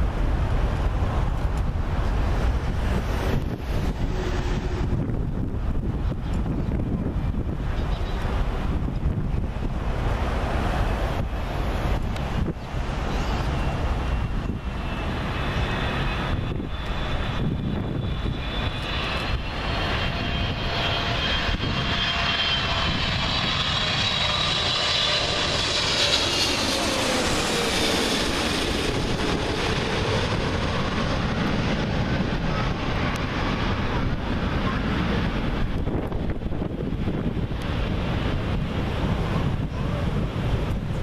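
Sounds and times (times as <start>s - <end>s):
jet engines passing overhead: 0.0s - 41.0s.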